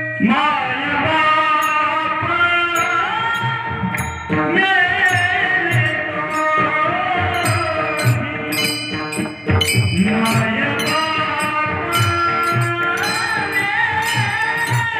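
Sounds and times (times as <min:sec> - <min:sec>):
men singing: 0:00.2 - 0:14.9.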